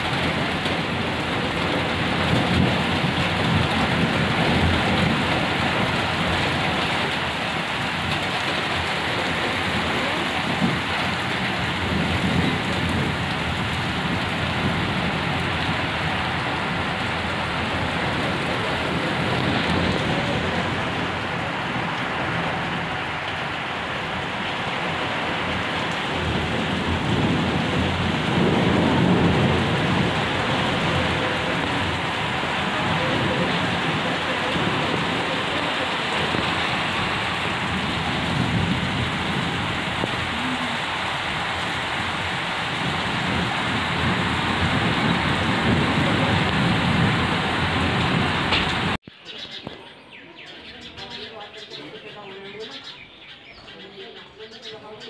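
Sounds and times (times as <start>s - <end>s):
thunder rumbling: 0.0s - 49.0s
heavy rain pouring: 0.0s - 50.0s.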